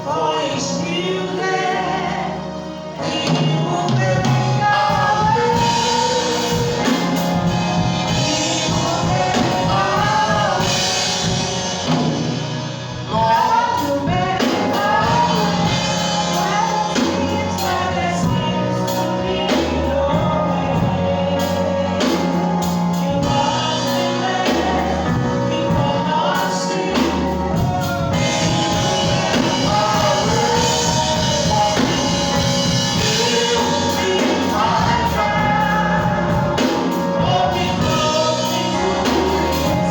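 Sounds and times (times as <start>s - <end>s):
choir singing gospel song: 0.0s - 39.9s
sustained bass notes: 0.0s - 39.9s.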